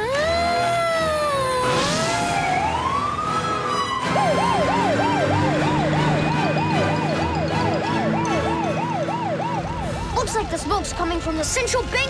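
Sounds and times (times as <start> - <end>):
fire engine siren: 0.1 - 10.4.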